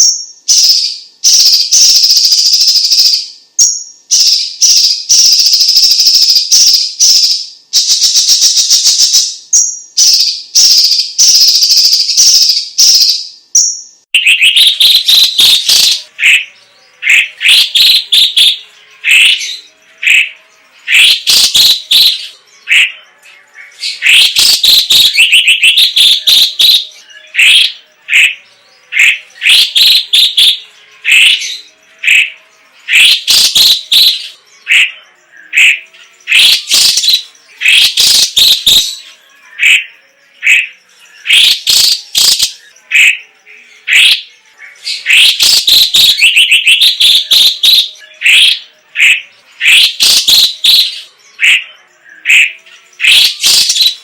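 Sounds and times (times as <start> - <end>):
bird chirping and whistling: 0.0 - 54.0.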